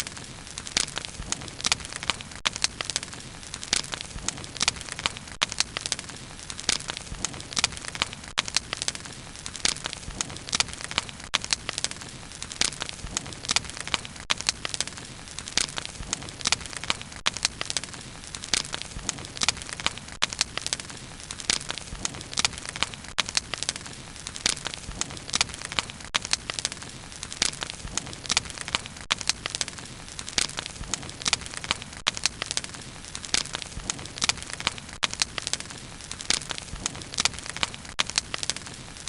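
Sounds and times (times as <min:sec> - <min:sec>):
fire crackling and popping: 0:00.0 - 0:39.0.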